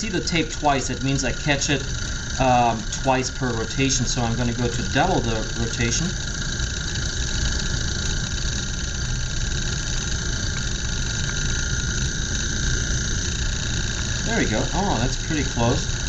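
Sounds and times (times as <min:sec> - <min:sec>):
small motor whirring: 0:00.0 - 0:16.0.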